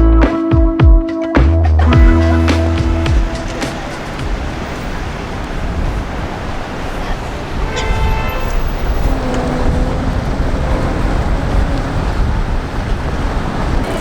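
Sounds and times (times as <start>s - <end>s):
low vehicle rumble: 1.8s - 14.0s.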